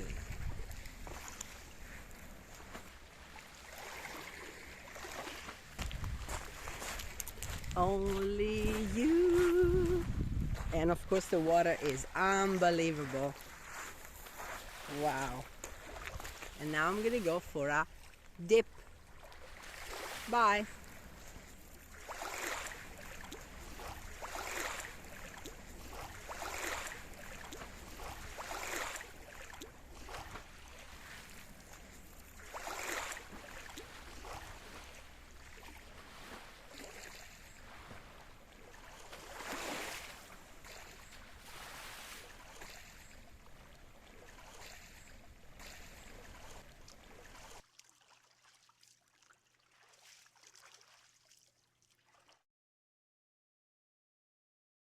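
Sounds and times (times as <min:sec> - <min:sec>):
sea water splashing: 0:00.0 - 0:52.4.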